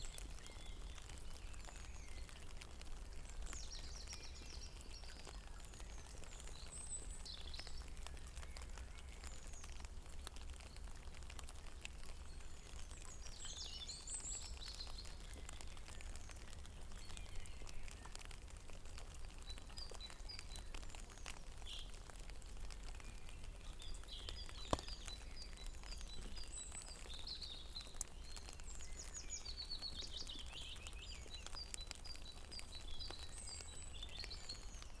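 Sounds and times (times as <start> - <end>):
rain pattering on pond: 0.0 - 35.0
small birds chirping: 0.0 - 35.0.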